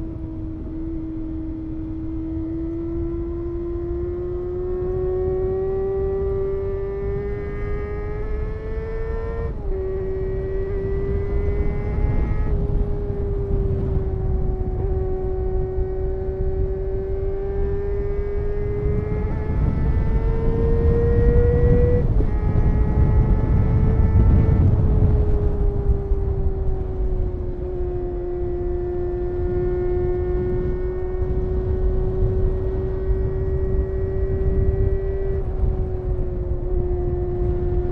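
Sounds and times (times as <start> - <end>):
motorcycle engine at high revs: 0.0 - 37.9
wind rush on microphone: 0.0 - 37.9.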